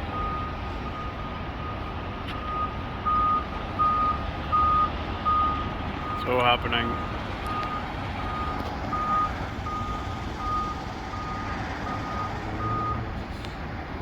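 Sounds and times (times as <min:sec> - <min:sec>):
vehicle reversing alarm beeping: 0:00.0 - 0:13.1
low engine rumble: 0:00.0 - 0:14.0.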